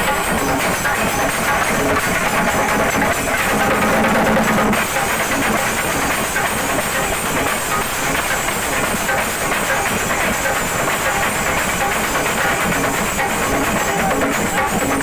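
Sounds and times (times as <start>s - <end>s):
cymbals clashing: 0.0s - 15.0s
drums beaten fast with sticks: 0.0s - 15.0s.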